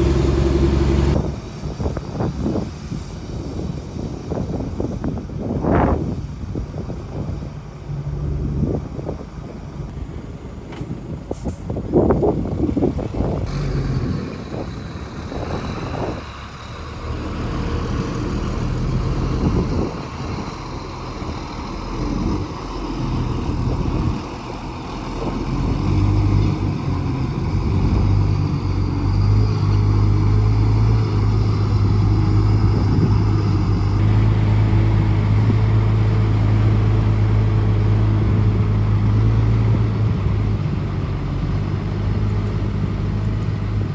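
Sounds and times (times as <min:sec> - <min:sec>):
heavy machinery diesel engine: 0:00.0 - 0:43.9.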